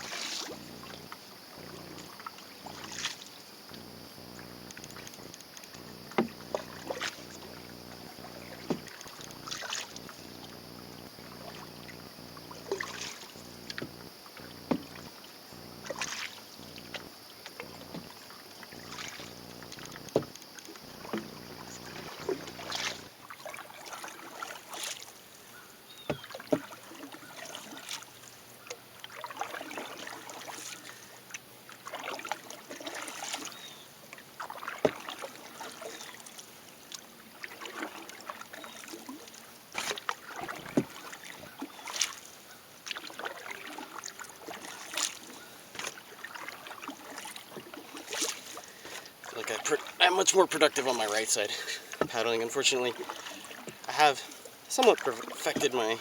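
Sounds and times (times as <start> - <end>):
paddle splashing in water: 0.0 - 56.0.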